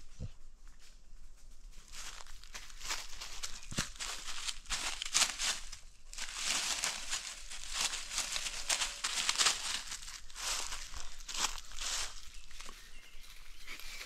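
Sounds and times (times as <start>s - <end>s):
dry leaves rustling and crunching: 1.5s - 14.0s.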